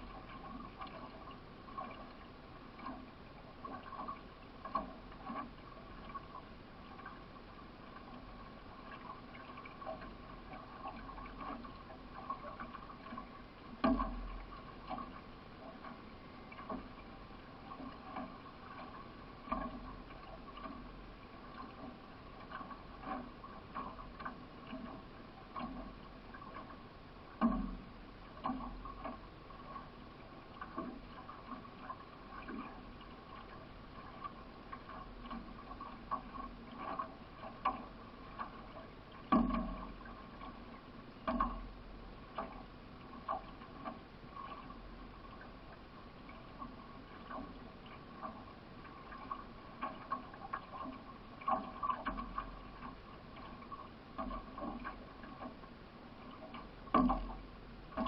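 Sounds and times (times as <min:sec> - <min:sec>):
faint steady hum: 0:00.0 - 0:58.0
paddle strokes knocking and splashing: 0:00.0 - 0:58.0.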